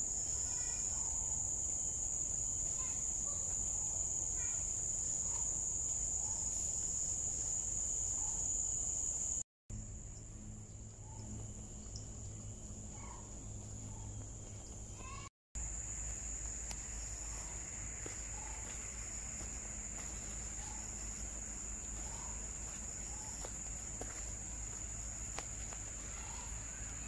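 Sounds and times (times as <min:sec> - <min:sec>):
insects chorus: 0:00.0 - 0:27.0.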